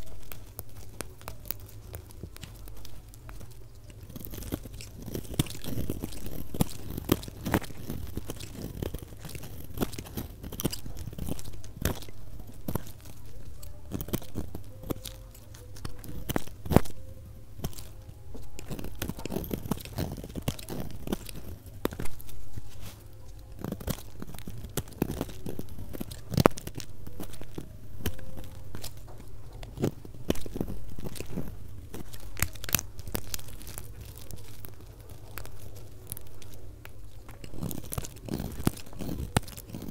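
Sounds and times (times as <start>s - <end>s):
soap being cut crunching: 0.0s - 39.9s.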